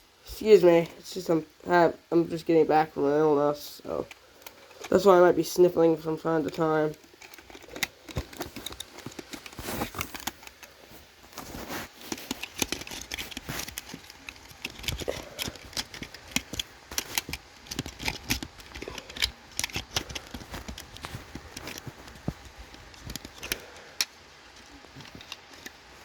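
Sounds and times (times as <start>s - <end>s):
plastic smoke alarm being handled: 3.9s - 26.0s.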